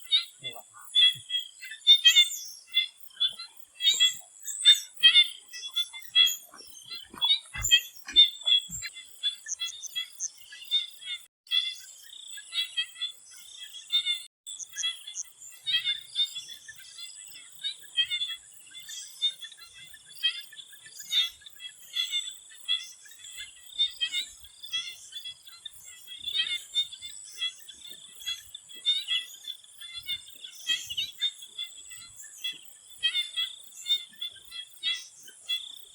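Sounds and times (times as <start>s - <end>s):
frogs chirping: 0.0s - 35.9s.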